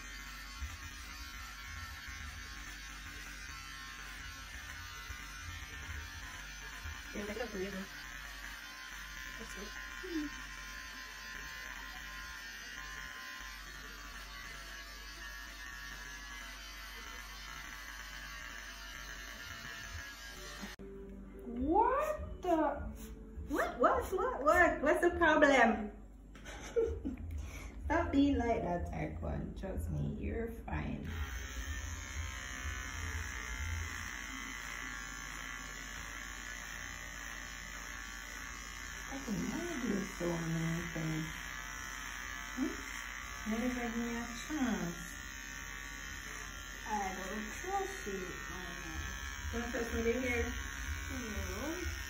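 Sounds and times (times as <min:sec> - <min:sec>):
electric hair clippers humming: 0:00.0 - 0:25.7, 0:26.4 - 0:52.0.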